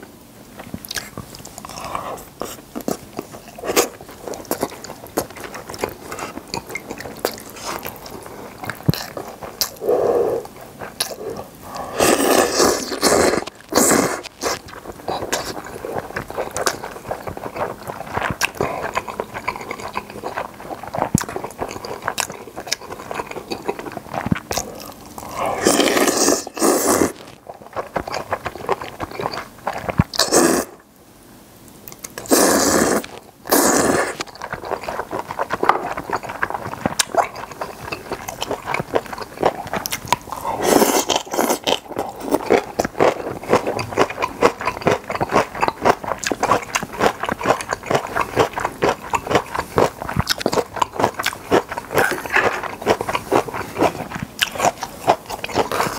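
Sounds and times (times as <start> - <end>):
wet chewing and mouth clicks: 0.6 - 30.8, 31.8 - 55.9
slurping noodles: 7.0 - 22.3, 22.9 - 30.8, 32.2 - 55.9.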